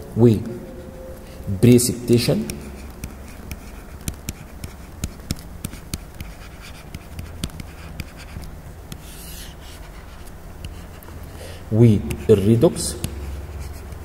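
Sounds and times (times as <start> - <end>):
stylus tapping and scratching: 2.1 - 14.0.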